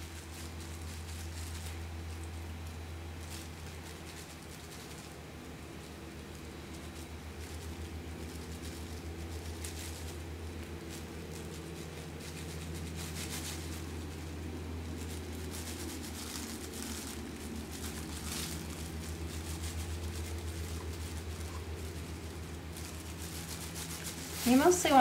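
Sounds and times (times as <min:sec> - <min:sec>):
low fluttering machine hum: 0:00.0 - 0:25.0
plastic gloves rustling: 0:00.0 - 0:25.0.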